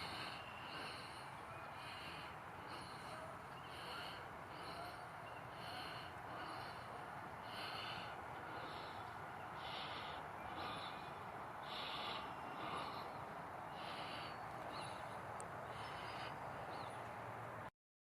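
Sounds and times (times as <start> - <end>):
steady outdoor hiss: 0.0 - 17.7.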